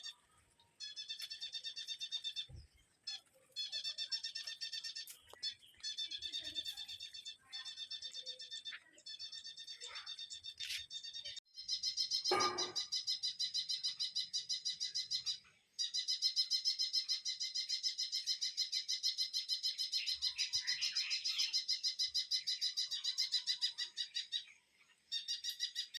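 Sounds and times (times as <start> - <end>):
bird rapid high chirps: 0.0 - 26.0
softer bird calls: 0.0 - 26.0.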